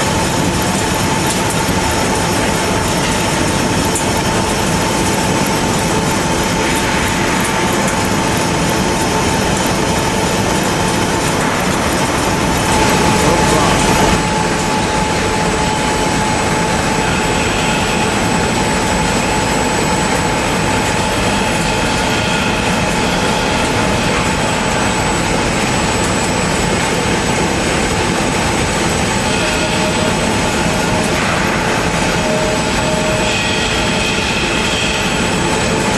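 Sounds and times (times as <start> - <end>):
machinery running roar: 0.0 - 35.9.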